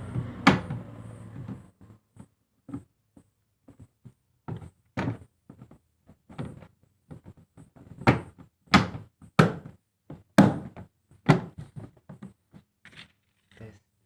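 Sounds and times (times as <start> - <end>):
knocks and thuds: 0.0 - 12.6.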